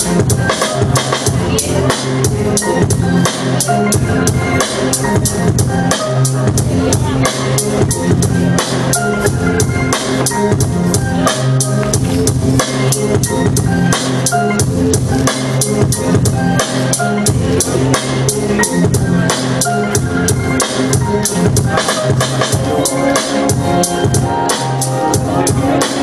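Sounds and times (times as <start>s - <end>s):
electronic drum pattern: 0.0s - 26.0s
held bass notes: 0.0s - 26.0s.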